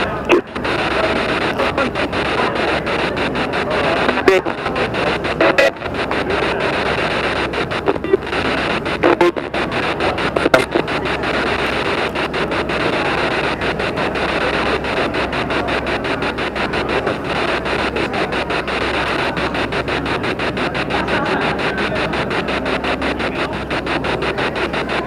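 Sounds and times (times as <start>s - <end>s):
radio static with rapid clicks: 0.0s - 25.0s.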